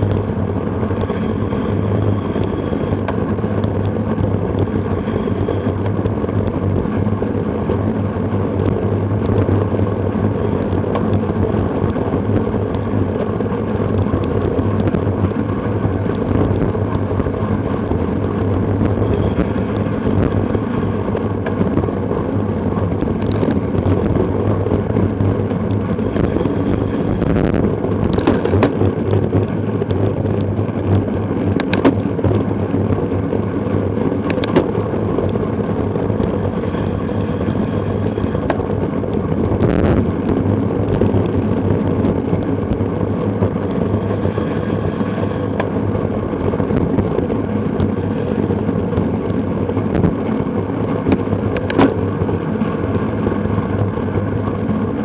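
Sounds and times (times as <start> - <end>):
road noise: 0.0 - 55.0
wind rush on microphone: 0.0 - 55.0.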